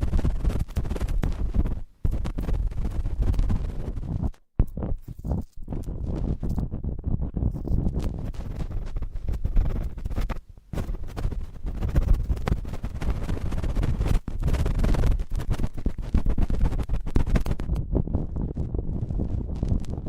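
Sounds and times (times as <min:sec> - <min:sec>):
cotton swabs scratching microphone: 0:00.0 - 0:20.0.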